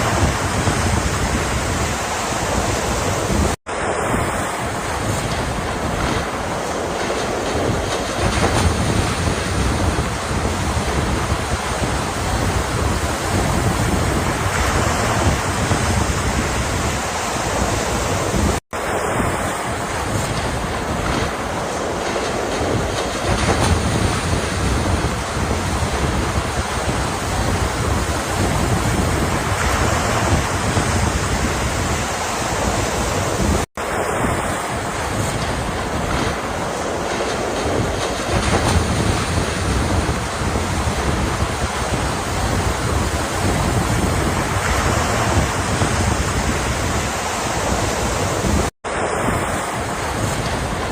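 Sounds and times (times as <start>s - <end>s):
waves breaking: 0.0s - 50.9s
wind on microphone: 0.0s - 50.9s.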